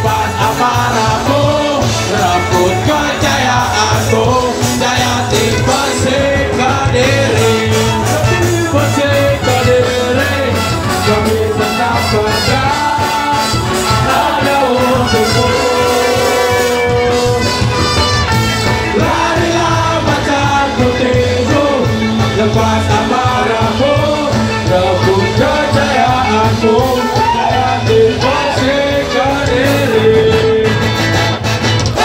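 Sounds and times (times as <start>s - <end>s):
live ska band playing: 0.0s - 32.0s
voices singing: 0.0s - 32.0s.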